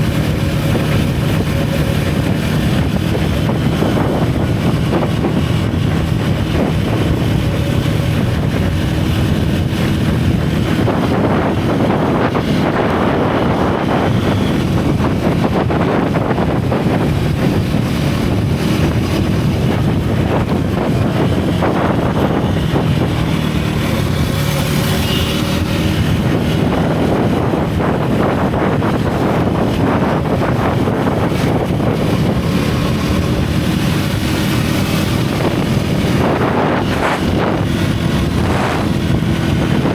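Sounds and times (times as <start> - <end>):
motorcycle engine and exhaust: 0.0 - 39.9
wind buffeting microphone: 0.0 - 39.9.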